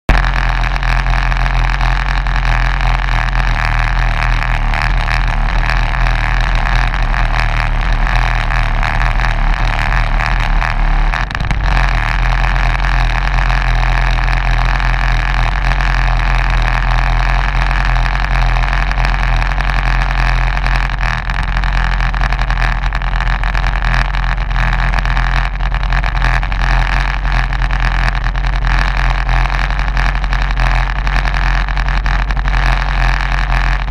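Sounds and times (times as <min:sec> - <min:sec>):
race car engine idling: 0:00.1 - 0:33.9.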